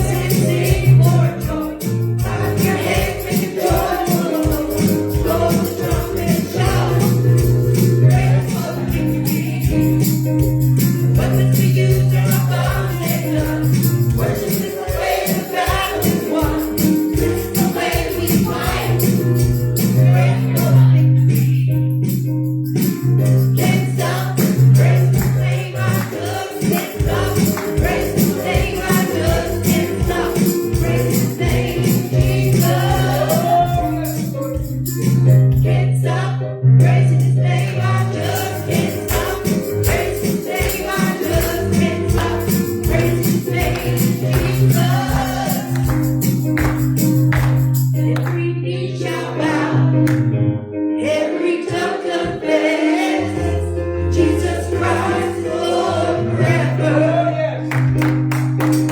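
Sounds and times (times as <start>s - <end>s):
voices singing together: 0.0s - 21.7s, 23.5s - 34.7s, 35.3s - 47.0s, 48.0s - 50.4s, 51.0s - 57.7s
live gospel band: 0.0s - 58.9s.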